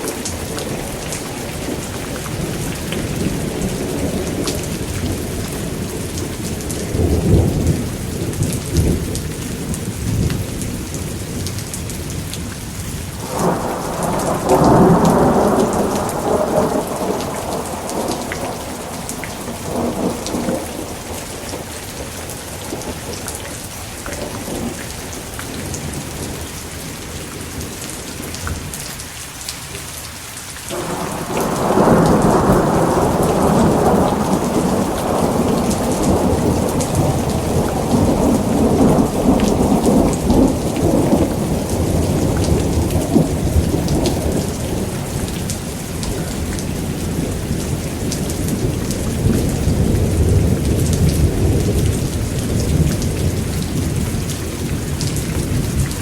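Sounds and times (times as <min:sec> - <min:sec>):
rolling thunder: 0:00.0 - 0:12.2, 0:13.2 - 0:27.7, 0:30.7 - 0:56.0
heavy rain: 0:00.0 - 0:56.0
raindrops crackling on a surface: 0:00.0 - 0:56.0.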